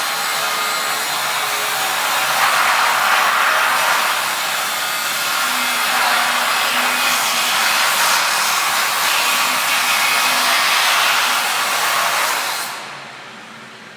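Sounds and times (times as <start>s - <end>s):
wire-stripping machine whirring: 0.0s - 13.0s.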